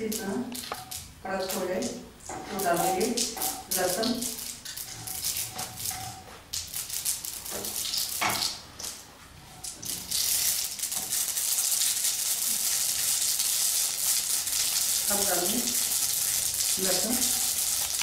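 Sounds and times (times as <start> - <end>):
mustard seeds popping in hot oil: 0.0 - 9.0, 9.6 - 18.0.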